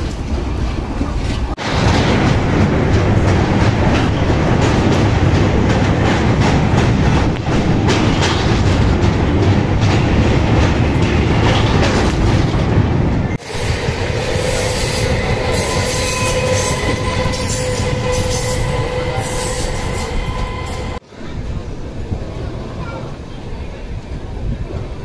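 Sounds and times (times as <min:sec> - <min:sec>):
wheels clattering on rails: 0:00.0 - 0:21.0
train rumble on bridge: 0:00.0 - 0:25.0.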